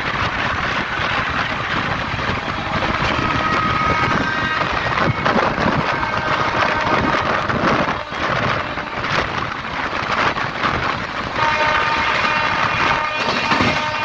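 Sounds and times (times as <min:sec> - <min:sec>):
rushing wind: 0:00.0 - 0:14.0
train wheels rumbling on rails: 0:00.0 - 0:14.0.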